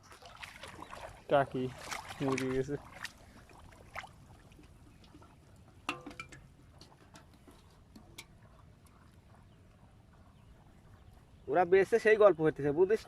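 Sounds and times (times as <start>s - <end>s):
water dripping: 0.0s - 11.3s.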